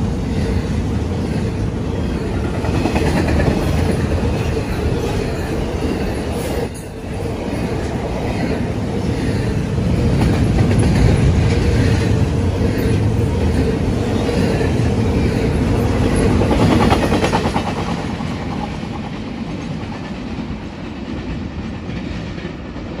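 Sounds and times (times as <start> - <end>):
freight train rumble: 0.0 - 23.0
train wheels clickety-clack: 0.0 - 23.0.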